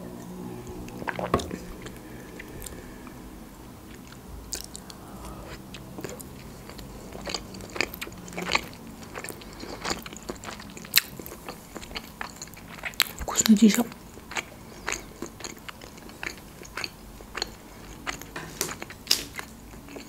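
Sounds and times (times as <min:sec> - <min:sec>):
biting and chewing food: 0:03.9 - 0:20.0.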